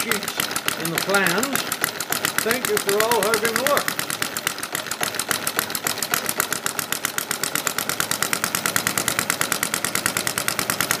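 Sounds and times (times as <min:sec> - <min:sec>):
model engine running with rapid pops: 0:00.0 - 0:11.0.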